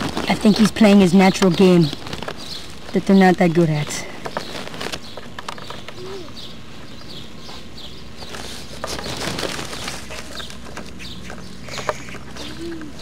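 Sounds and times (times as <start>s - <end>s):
birds chirping: 0.0s - 13.0s
outdoor background noise: 0.0s - 13.0s
rustle: 0.0s - 13.0s.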